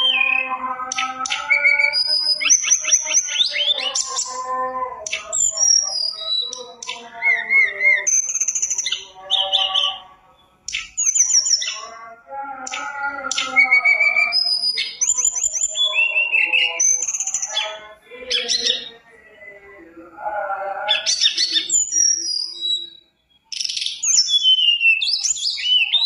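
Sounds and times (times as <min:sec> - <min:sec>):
songbird singing: 0:00.0 - 0:26.0.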